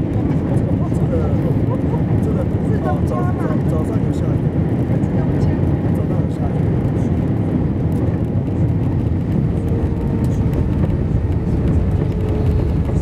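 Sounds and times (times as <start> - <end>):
airliner engines and wheels rumbling: 0.0 - 13.0.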